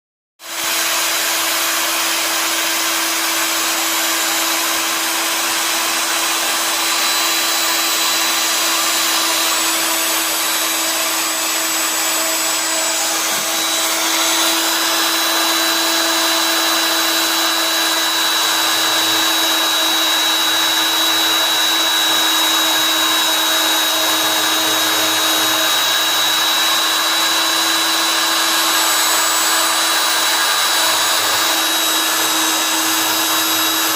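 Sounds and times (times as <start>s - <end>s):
cnc machine running: 0.5s - 33.9s.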